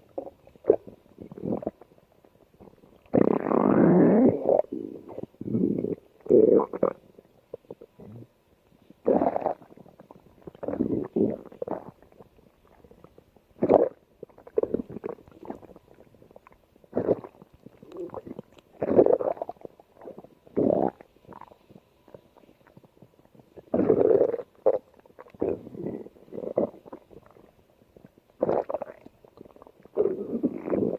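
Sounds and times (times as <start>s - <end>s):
stomach growling: 0.0s - 30.9s.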